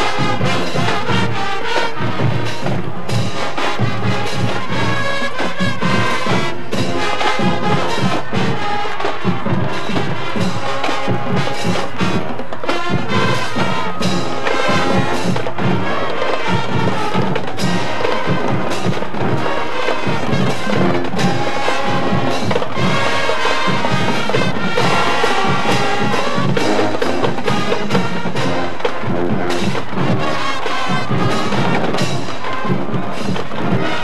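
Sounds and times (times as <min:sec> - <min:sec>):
brass section playing tune: 0:00.0 - 0:34.0
drumline beat: 0:00.0 - 0:34.0.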